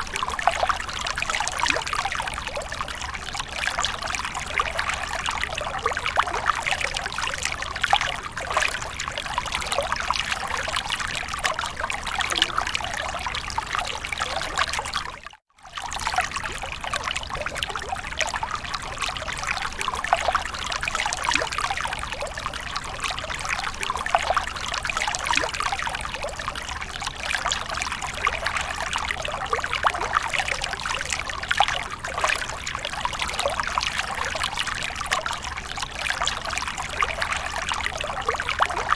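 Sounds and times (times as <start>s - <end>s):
water splashing and trickling: 0.0s - 38.9s.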